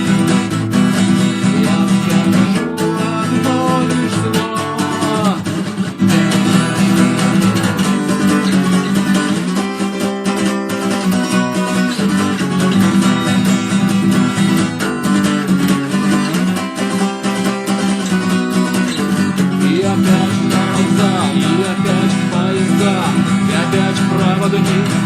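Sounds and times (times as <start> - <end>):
guitar strumming chords: 0.0 - 25.0.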